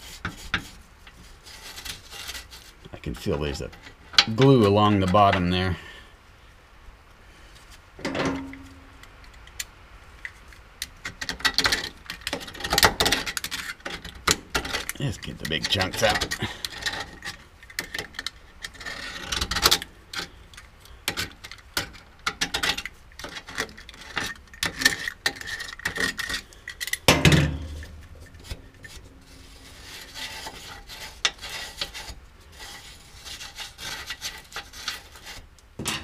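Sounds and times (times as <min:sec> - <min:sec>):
scraping on metal: 0:00.0 - 0:05.5, 0:11.1 - 0:36.0.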